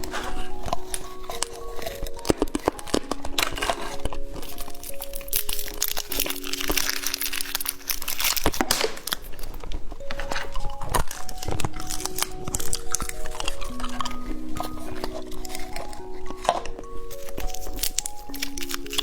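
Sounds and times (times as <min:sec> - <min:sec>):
candy wrapper crinkling: 0:00.0 - 0:19.0.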